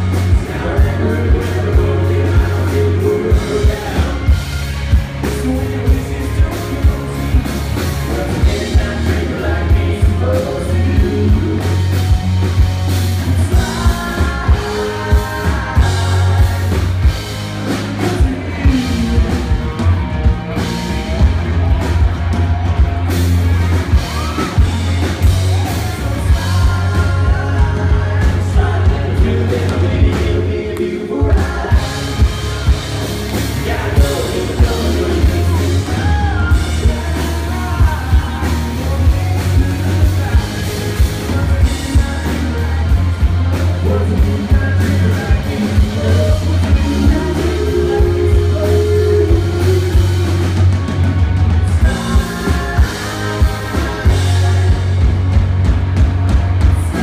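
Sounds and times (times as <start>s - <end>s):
person singing: 0.0s - 12.6s, 13.2s - 21.4s, 23.9s - 50.8s, 51.7s - 55.4s
acoustic and electric guitars: 0.0s - 57.0s
drum kit beat: 0.0s - 57.0s.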